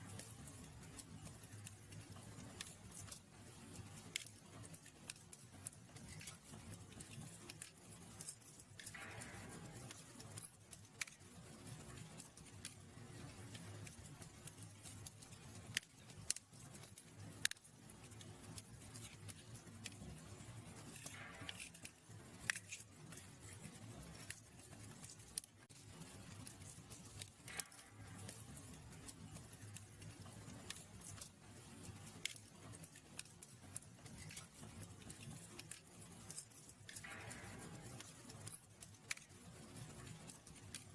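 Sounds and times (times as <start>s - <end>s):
fire crackling and popping: 0.0s - 40.9s
fire hissing: 0.0s - 40.9s
flame rumble: 0.0s - 40.9s.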